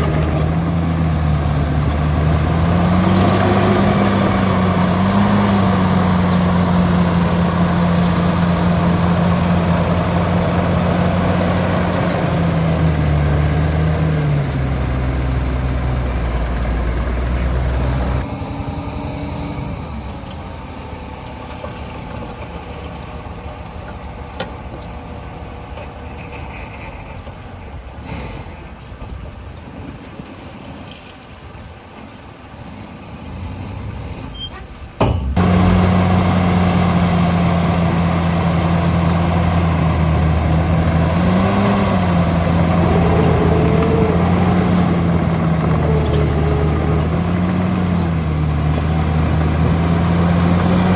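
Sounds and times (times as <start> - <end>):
heavy diesel engine under load: 0.0 - 50.9.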